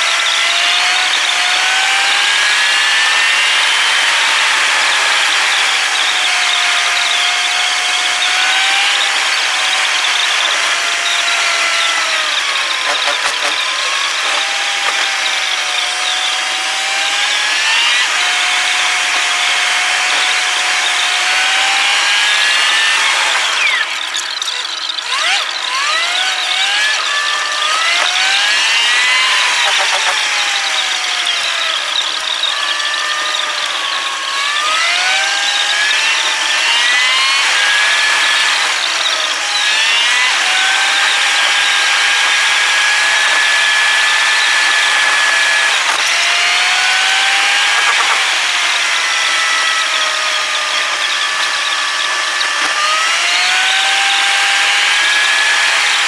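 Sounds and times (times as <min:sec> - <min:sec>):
car engine whine: 0:00.0 - 0:56.0
road noise: 0:00.0 - 0:56.0.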